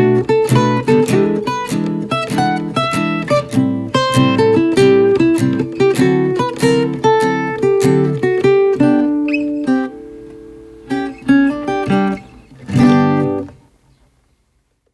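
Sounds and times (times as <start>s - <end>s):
acoustic guitar music: 0.0s - 13.8s.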